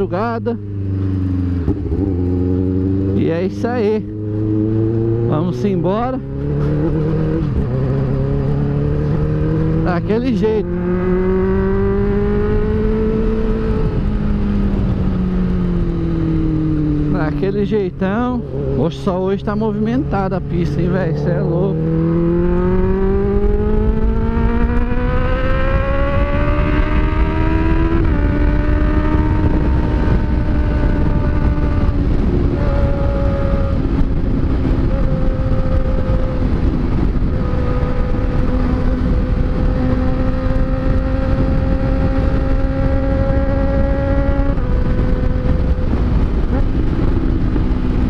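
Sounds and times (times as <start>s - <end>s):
motorcycle engine accelerating: 0.0s - 48.0s
wind on microphone: 0.0s - 48.0s.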